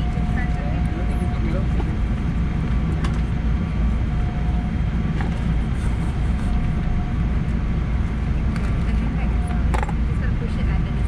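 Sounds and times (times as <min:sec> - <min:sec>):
jet engines low rumble: 0:00.0 - 0:11.0.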